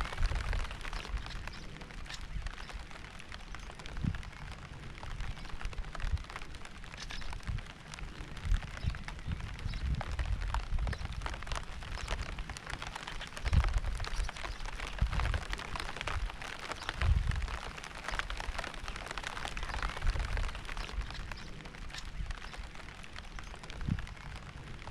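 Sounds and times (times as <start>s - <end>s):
rain pattering: 0.0s - 24.9s.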